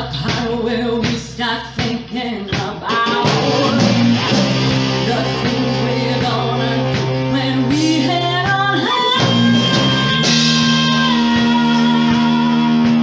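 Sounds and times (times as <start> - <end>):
woman singing: 0.0 - 13.0
rock band playing: 2.5 - 13.0.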